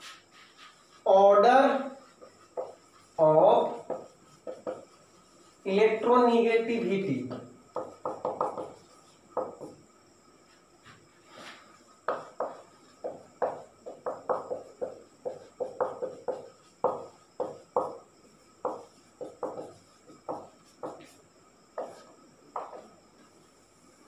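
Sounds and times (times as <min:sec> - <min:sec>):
marker pen writing on whiteboard: 0:00.0 - 0:09.8, 0:11.8 - 0:23.4.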